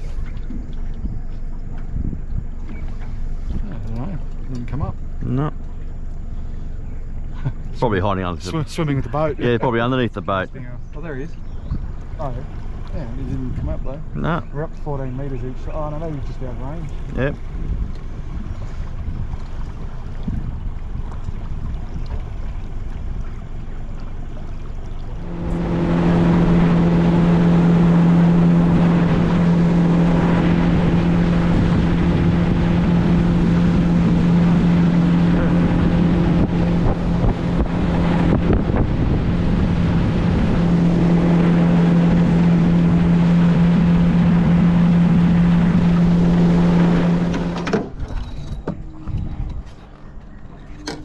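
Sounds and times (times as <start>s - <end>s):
outboard motor drone: 0.0s - 51.0s
water rushing past: 0.0s - 51.0s
wind: 0.0s - 51.0s.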